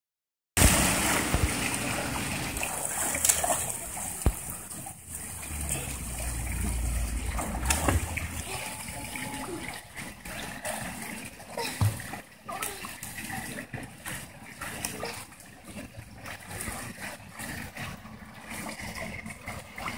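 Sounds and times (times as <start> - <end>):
water pouring from spillways: 0.6 - 19.9
water splashing: 0.6 - 19.9.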